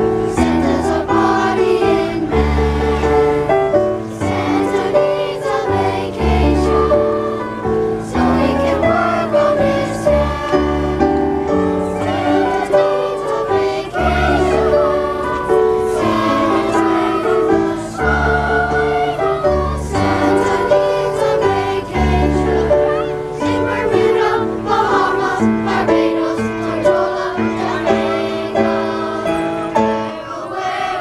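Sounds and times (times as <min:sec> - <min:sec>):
choir singing: 0:00.0 - 0:31.0
instrumental accompaniment: 0:00.0 - 0:31.0.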